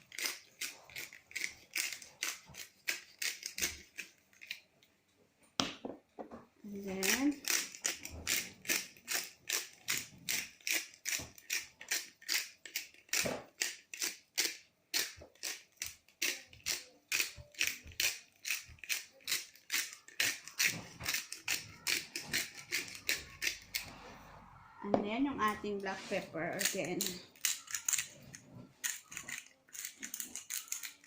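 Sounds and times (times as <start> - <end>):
pepper shaker rattling: 0.0 - 4.6, 6.8 - 23.9, 26.5 - 31.0.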